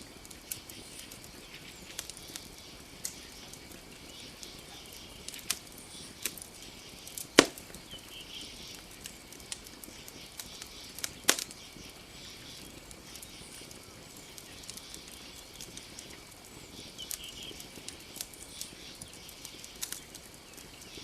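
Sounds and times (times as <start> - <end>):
burning wood popping: 0.0 - 21.0
campfire crackling: 0.0 - 21.0
faint high hiss: 0.0 - 21.0.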